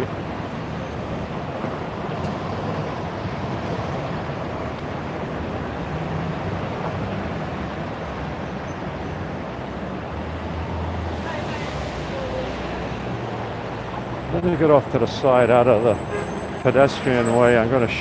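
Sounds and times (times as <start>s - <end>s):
city hubbub: 0.0s - 18.0s
traffic rumble: 0.0s - 18.0s.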